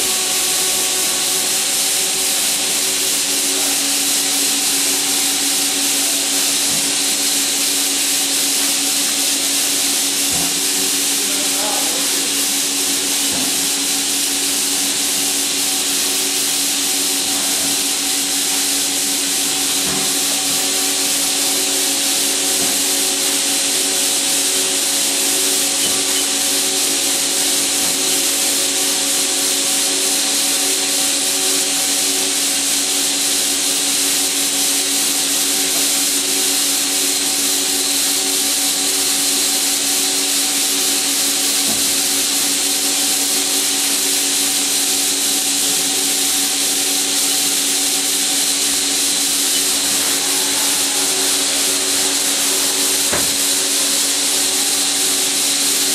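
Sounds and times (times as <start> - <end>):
lathe running: 0.0 - 55.9.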